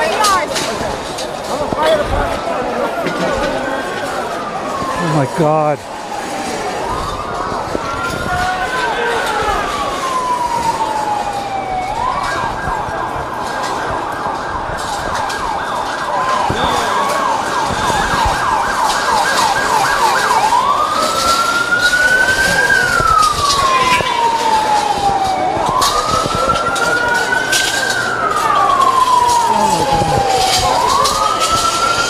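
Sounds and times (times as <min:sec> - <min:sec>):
emergency siren wailing and yelping: 0:00.0 - 0:32.0
street commotion: 0:00.0 - 0:32.0.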